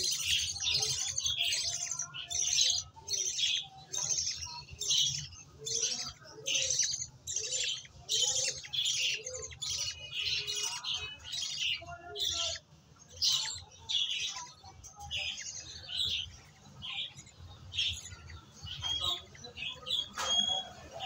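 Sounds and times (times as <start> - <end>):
chicks raspy begging calls: 0.0 - 21.0.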